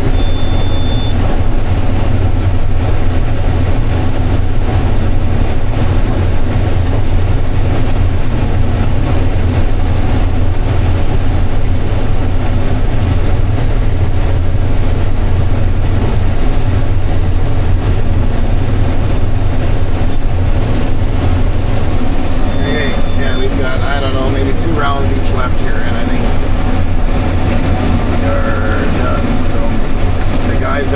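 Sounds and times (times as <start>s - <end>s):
combine harvester engine drone: 0.0s - 30.9s.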